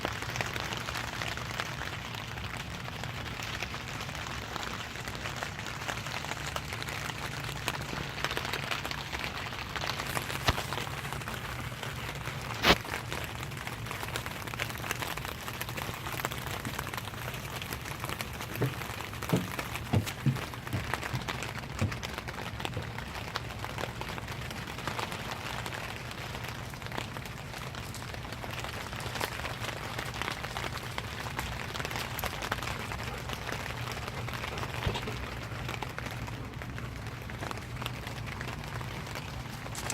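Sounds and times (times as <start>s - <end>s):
low steady hum: 0.0s - 39.9s
rain pattering: 0.0s - 39.9s.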